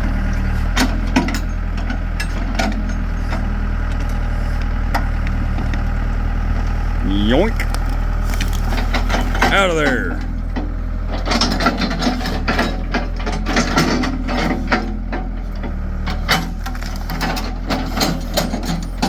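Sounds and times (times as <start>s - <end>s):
backhoe engine running: 0.0s - 19.0s.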